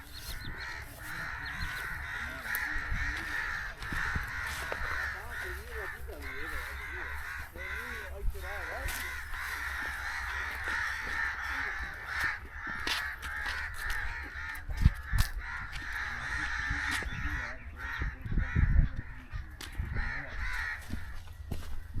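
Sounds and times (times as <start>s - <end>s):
crows cawing: 0.0s - 22.0s.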